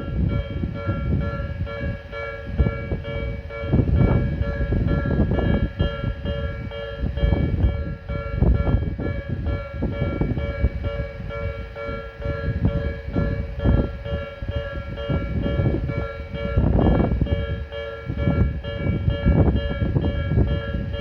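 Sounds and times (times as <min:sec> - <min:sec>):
level-crossing two-tone warning bell: 0:00.0 - 0:21.0
train rumbling: 0:00.0 - 0:21.0
train wheels clattering on rails: 0:00.0 - 0:21.0.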